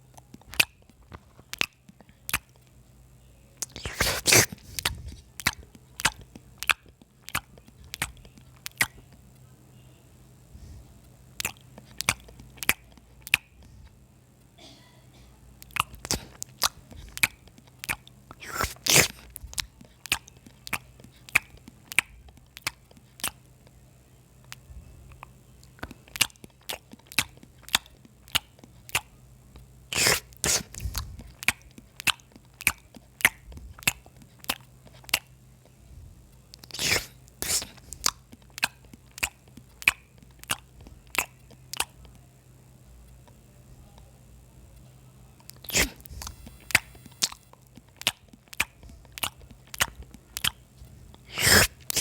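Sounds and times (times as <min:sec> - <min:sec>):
crunchy chewing bites: 0:00.0 - 0:02.8, 0:03.6 - 0:09.4, 0:10.5 - 0:14.0, 0:15.6 - 0:42.2, 0:45.4 - 0:52.0
faint low hum: 0:00.0 - 0:52.0
wet mouth clicks: 0:00.1 - 0:02.7, 0:03.6 - 0:09.2, 0:11.4 - 0:13.7, 0:15.6 - 0:23.8, 0:24.4 - 0:35.8, 0:36.5 - 0:42.2, 0:45.4 - 0:52.0.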